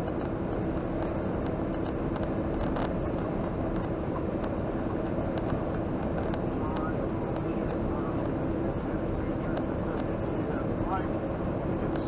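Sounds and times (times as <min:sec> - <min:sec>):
constant hum: 0:00.0 - 0:12.0
truck engine and road noise: 0:00.0 - 0:12.0.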